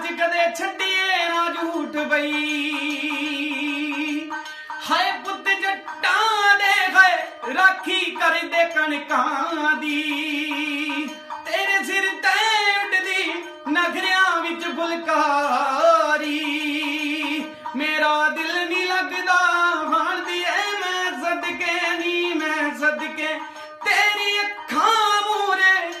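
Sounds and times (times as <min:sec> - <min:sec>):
harmonium held notes: 0:00.0 - 0:26.0
man singing folk melody: 0:00.0 - 0:26.0
plucked string instrument: 0:00.0 - 0:26.0.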